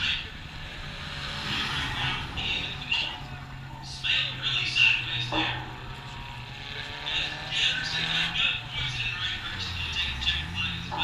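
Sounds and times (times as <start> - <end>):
distant stock car engines droning: 0.0 - 11.0.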